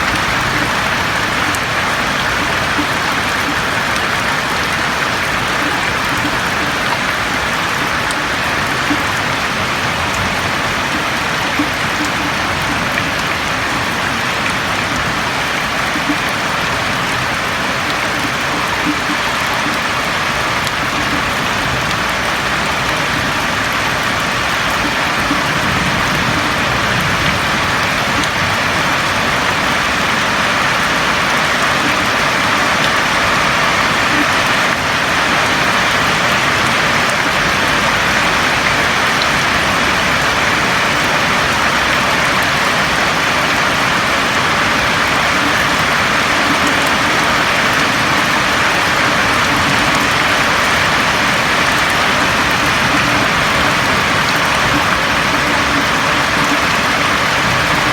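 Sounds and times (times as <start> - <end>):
rain on a roof: 0.0 - 57.9.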